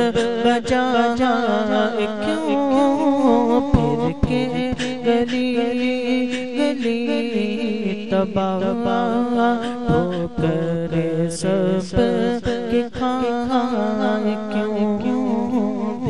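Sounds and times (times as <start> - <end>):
person singing a cappella: 0.0 - 16.0.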